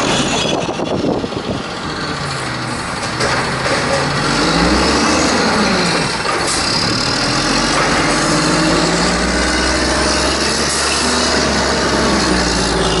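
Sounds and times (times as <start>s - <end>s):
garbage truck engine running: 0.0s - 13.0s.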